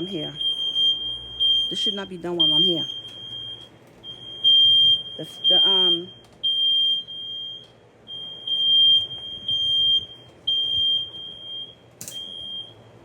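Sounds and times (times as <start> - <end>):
smoke alarm beeping: 0.0 - 13.0.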